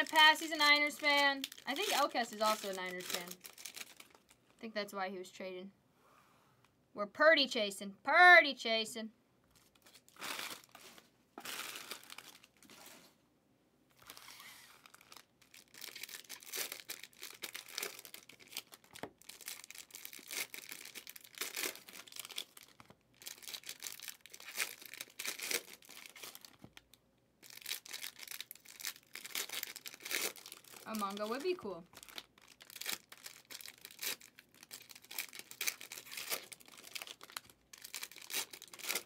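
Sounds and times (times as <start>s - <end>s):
foil wrappers crinkling and tearing: 0.0s - 4.4s, 9.5s - 13.0s, 13.9s - 39.0s.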